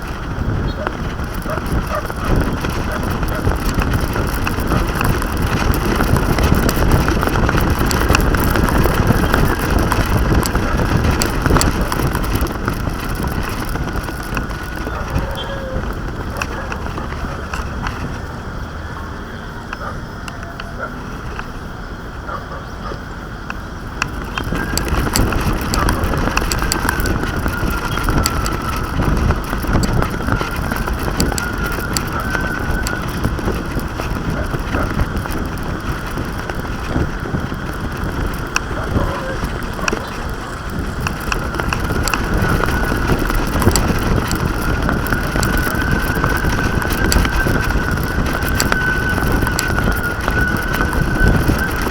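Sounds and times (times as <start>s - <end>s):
fine rattling clicks: 0.0s - 18.3s, 23.5s - 51.9s
wind buffeting microphone: 0.0s - 51.9s.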